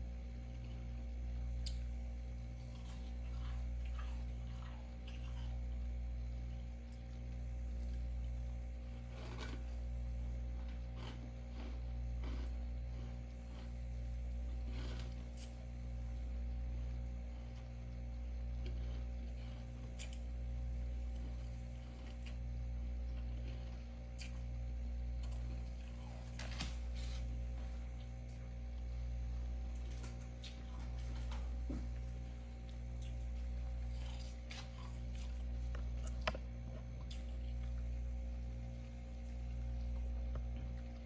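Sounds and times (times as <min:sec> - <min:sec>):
faint steady tones: 0:00.0 - 0:23.6, 0:24.7 - 0:41.0
low electrical hum: 0:00.0 - 0:41.0.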